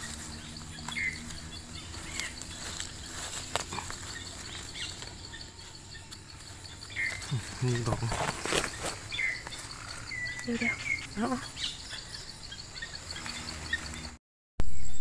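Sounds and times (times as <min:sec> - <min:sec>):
faint insect ticking: 0:00.0 - 0:14.2
leaves rustling: 0:00.0 - 0:14.2
bird chirps: 0:00.0 - 0:15.0.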